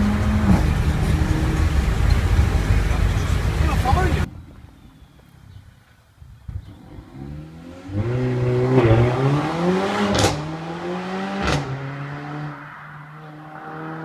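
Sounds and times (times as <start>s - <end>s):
car engine accelerating hard: 0.0s - 4.3s, 6.6s - 14.0s.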